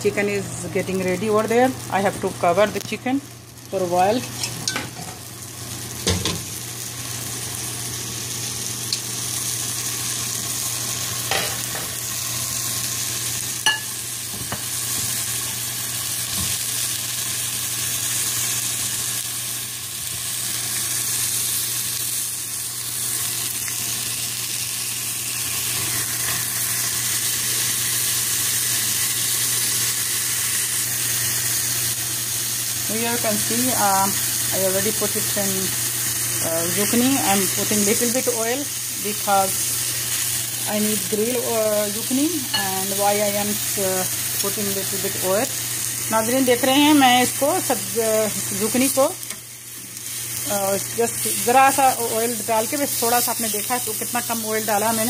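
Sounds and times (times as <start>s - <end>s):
vegetables sizzling in frying pan: 0.0s - 55.0s.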